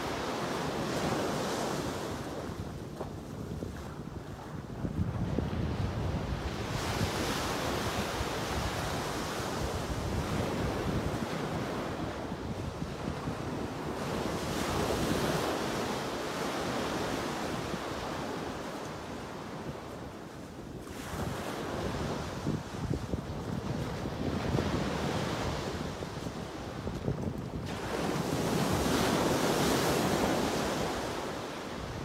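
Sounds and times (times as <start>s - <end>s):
wind buffeting microphone: 0.9s - 32.0s.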